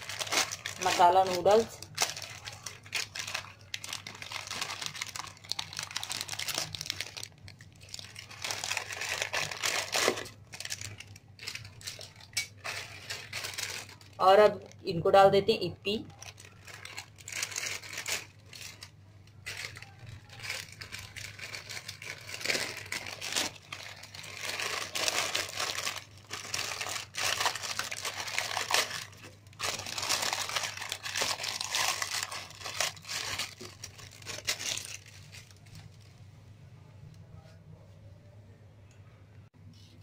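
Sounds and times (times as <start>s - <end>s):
plastic packets crinkling: 0.0s - 14.9s, 16.0s - 36.1s.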